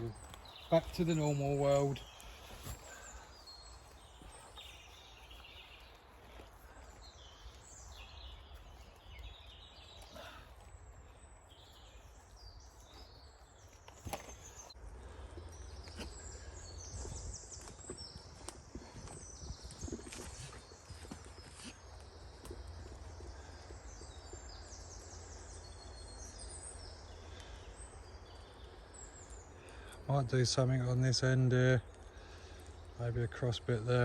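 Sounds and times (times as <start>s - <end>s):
small birds singing and chirping: 0.0s - 34.0s.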